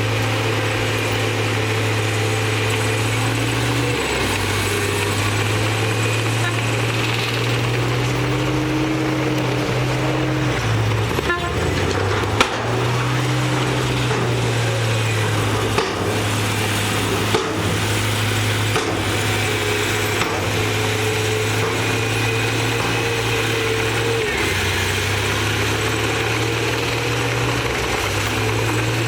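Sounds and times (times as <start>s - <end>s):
metallic clanks: 0.0s - 26.3s
diesel engine running under load: 0.0s - 29.0s.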